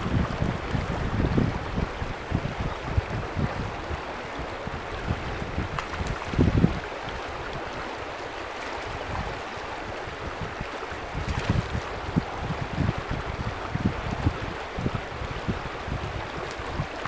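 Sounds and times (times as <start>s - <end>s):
wind buffeting microphone: 0.0s - 8.1s, 8.8s - 17.0s
river running over gravel: 0.0s - 17.0s.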